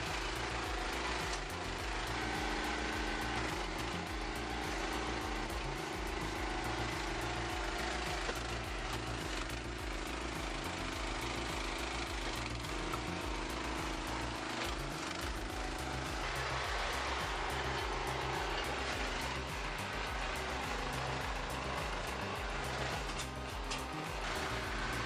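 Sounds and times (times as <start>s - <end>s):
machine engine running steadily: 0.0s - 25.0s.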